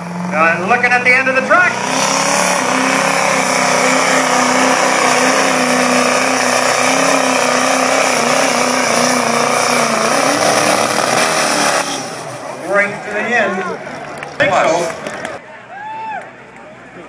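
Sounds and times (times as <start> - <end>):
diesel truck engine under load: 0.0 - 15.4.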